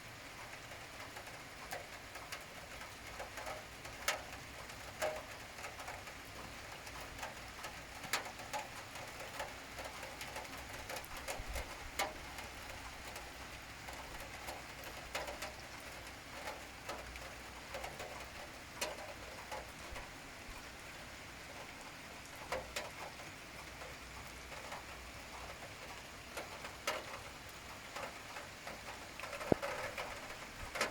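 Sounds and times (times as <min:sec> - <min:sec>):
steady rain hiss: 0:00.0 - 0:30.9
raindrops clicking on hard surfaces: 0:00.1 - 0:30.9.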